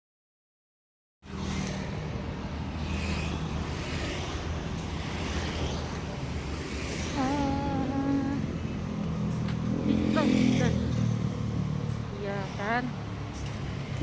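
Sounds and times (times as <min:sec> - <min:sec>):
street traffic hum: 0:01.2 - 0:14.0.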